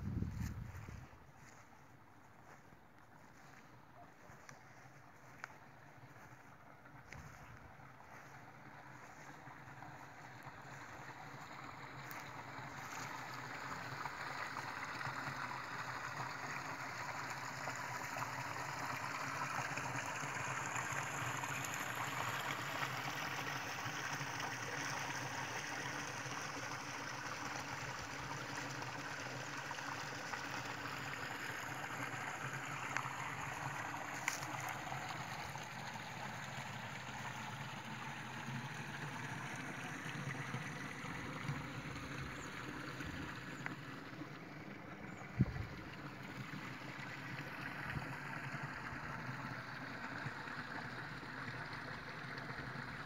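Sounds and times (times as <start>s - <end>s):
water rushing and trickling: 0.0s - 53.0s.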